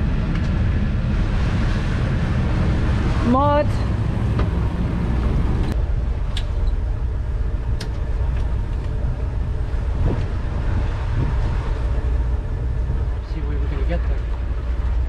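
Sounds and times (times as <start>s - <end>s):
boat engines rumbling: 0.0s - 15.0s.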